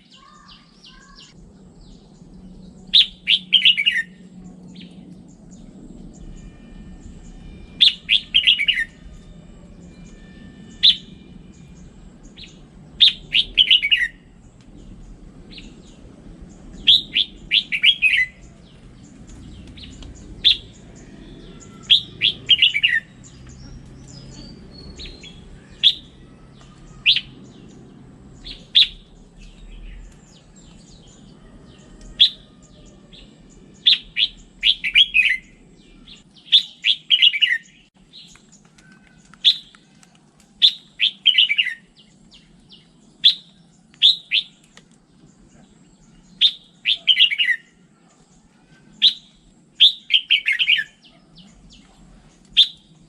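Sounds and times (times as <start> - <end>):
bulbul singing: 0.0 - 53.0.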